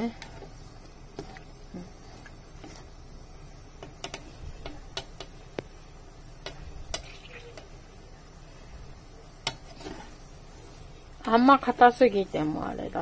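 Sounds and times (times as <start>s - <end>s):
pot simmering: 0.0s - 13.0s.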